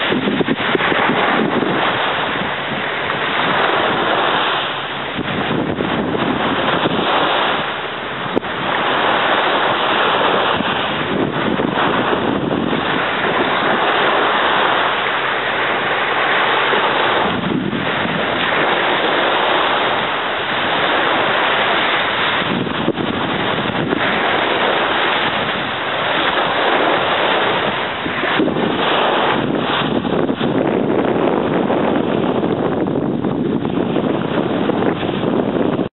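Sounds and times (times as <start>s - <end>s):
surf washing onto beach: 0.0s - 35.9s
wind buffeting microphone: 0.0s - 35.9s.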